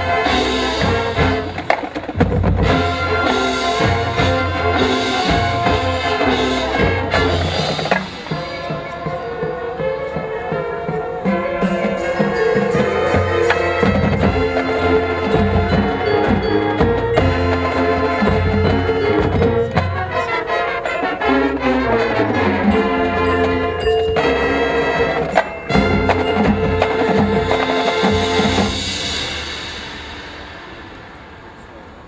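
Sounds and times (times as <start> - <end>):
drums: 0.0 - 32.0
mallet percussion: 0.0 - 32.0
marching band playing: 0.0 - 32.0.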